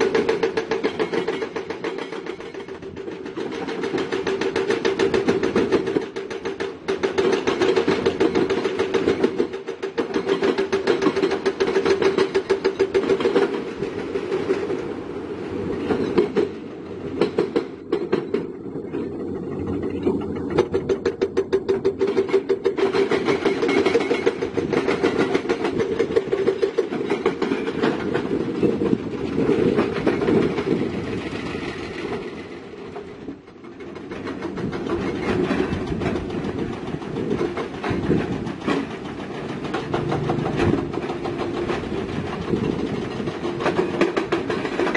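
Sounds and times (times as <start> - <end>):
steel tracks clattering: 0.0 - 44.9.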